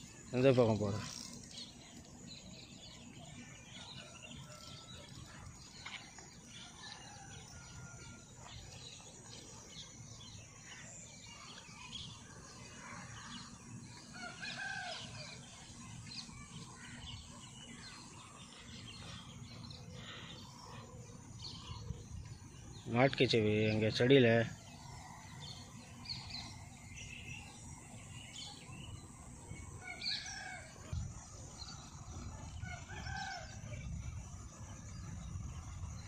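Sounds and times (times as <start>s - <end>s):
birds chirping and calling: 0.0s - 36.0s.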